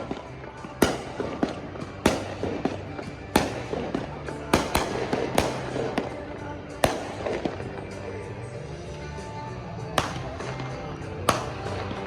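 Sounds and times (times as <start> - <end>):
fireworks pops and crackles: 0.0 - 8.0, 10.0 - 12.0
fireworks booming: 0.0 - 8.1, 9.9 - 12.0
background music: 0.0 - 12.0.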